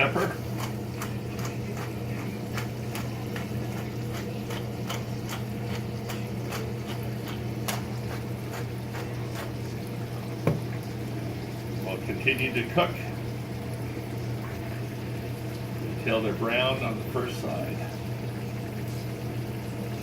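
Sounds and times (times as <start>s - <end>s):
chicken frying in butter: 0.0s - 20.0s.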